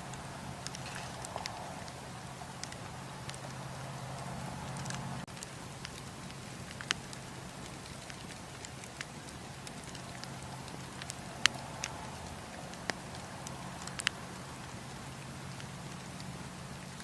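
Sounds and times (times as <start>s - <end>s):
burning wood crackling and popping: 0.0s - 17.0s
campfire hissing: 0.0s - 17.0s.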